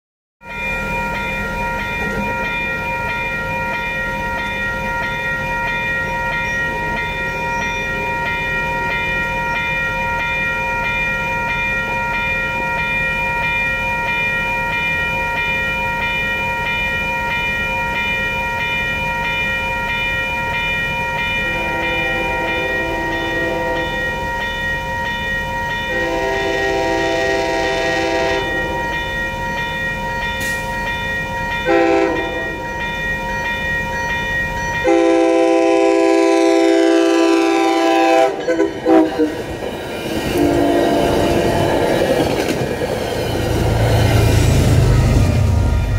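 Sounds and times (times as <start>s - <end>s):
railroad crossing bell ringing: 0.4s - 45.9s.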